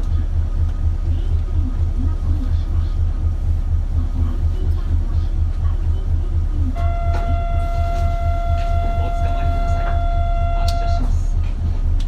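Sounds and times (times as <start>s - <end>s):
diesel bus engine throbbing: 0.0s - 12.0s.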